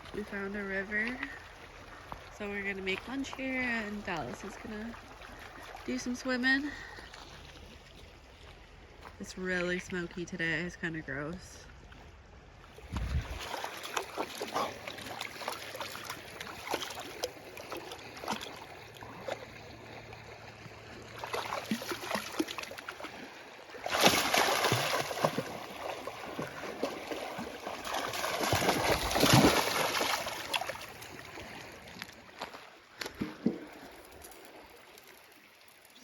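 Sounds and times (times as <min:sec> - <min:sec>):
river water running: 0:00.0 - 0:36.0.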